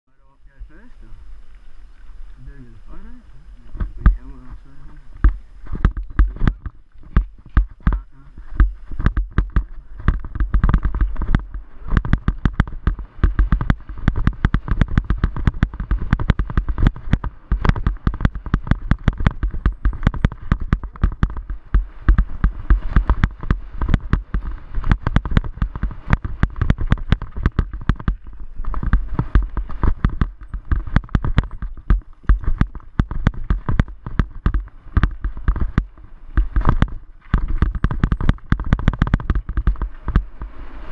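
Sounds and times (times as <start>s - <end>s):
wind buffeting microphone: 0.5s - 40.9s
bicycle rattling on bumpy trail: 1.2s - 40.9s.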